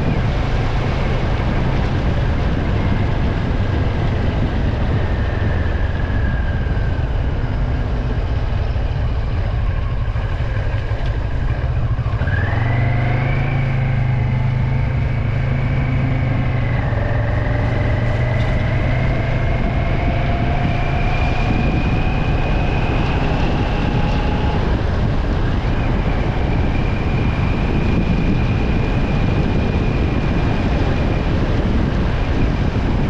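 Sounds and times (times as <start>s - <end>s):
engine and drivetrain whine: 0.0s - 33.0s
vehicle rumble: 0.0s - 33.0s.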